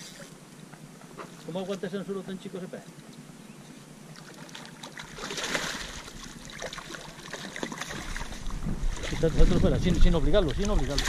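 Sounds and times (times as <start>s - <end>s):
water splashing and sloshing: 0.0s - 2.1s, 4.0s - 11.0s.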